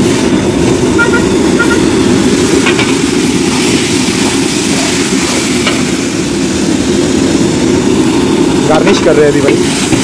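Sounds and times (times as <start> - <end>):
gas burner flame rushing: 0.0 - 10.0.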